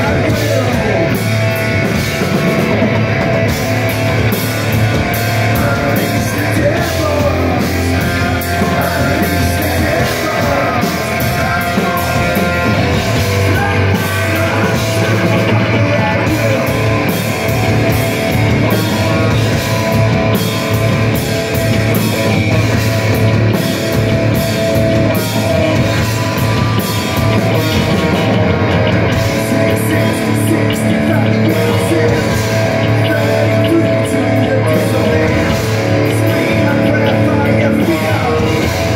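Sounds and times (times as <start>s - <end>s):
distorted electric guitar: 0.0s - 38.9s
drum kit: 0.0s - 38.9s
electric bass: 0.0s - 38.9s.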